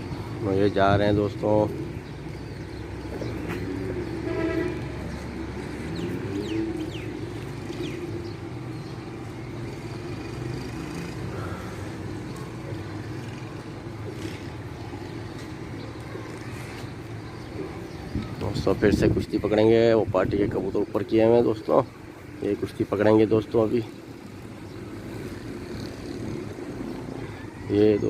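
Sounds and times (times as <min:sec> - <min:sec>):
distant city traffic: 0:00.0 - 0:28.0.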